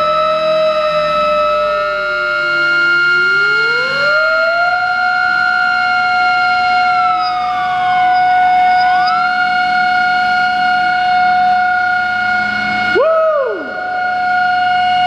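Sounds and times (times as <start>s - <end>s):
mechanical sirens wailing: 0.0s - 15.0s.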